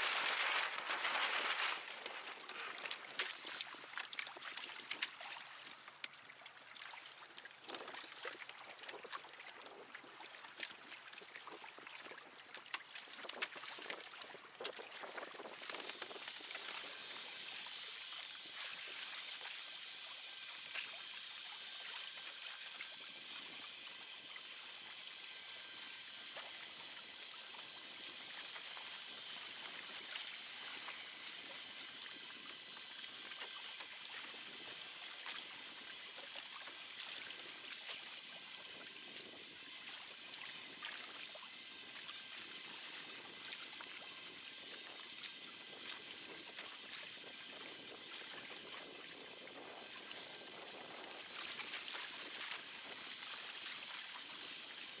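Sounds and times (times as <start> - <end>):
water trickling and lapping: 0.0 - 55.0.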